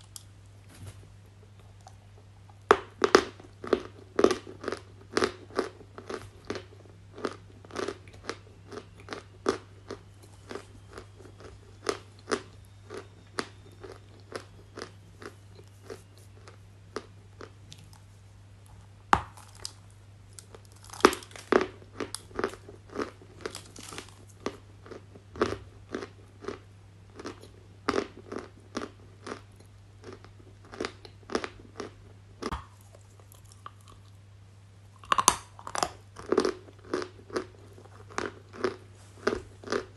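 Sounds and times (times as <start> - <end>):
faint steady low hum: 0.0 - 39.9
crunching and chewing: 1.2 - 34.2, 34.9 - 39.9.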